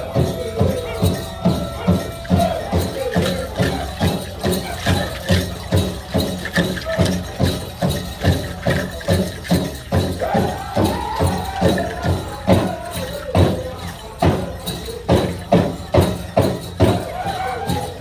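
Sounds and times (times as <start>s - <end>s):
big drum steady beat: 0.0s - 18.0s
high singing voices: 0.0s - 18.0s.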